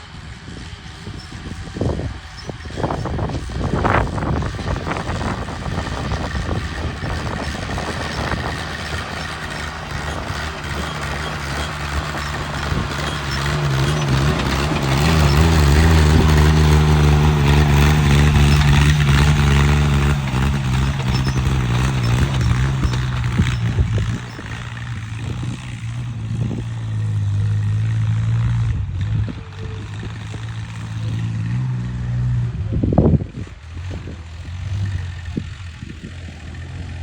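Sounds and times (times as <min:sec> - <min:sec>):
tractor engine revving: 0:00.0 - 0:37.0.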